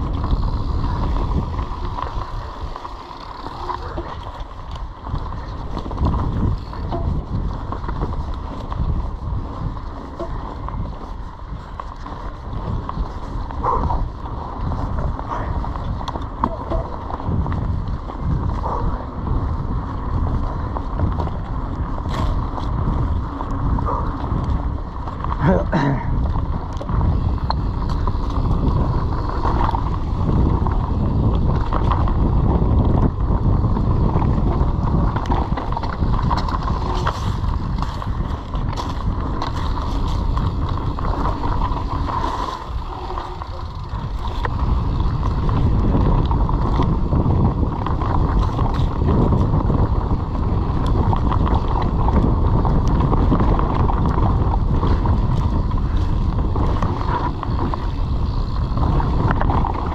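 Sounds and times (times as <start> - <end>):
bike rattling: 0.0 - 59.9
tyre rumble on dirt trail: 0.0 - 59.9
wind buffeting microphone: 0.0 - 59.9.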